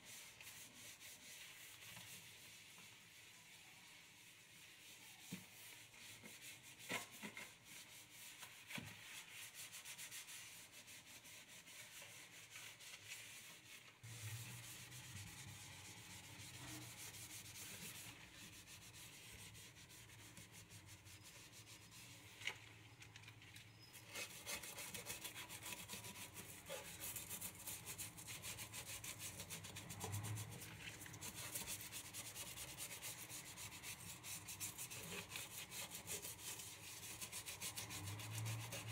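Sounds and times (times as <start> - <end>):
brush scrubbing metal strainer: 0.0 - 22.2, 24.0 - 38.9
sponge scrubbing metal sink: 0.0 - 22.3, 24.0 - 38.9.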